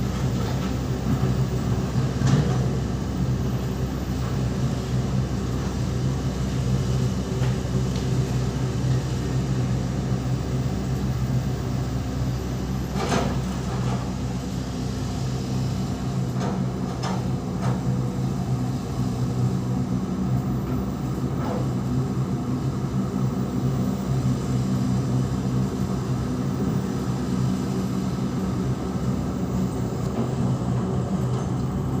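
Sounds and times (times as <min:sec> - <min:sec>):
excavator diesel engine under load: 0:00.0 - 0:32.0.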